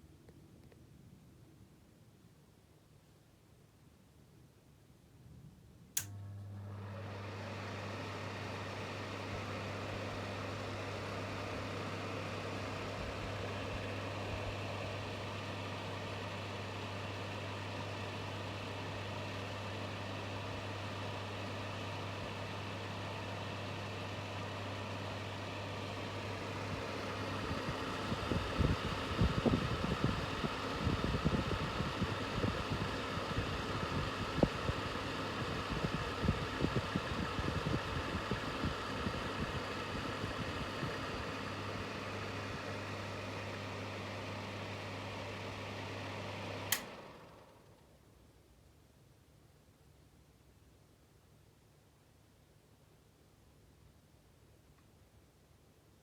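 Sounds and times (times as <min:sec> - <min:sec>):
ventilation fan humming and whirring: 0:00.0 - 0:56.0.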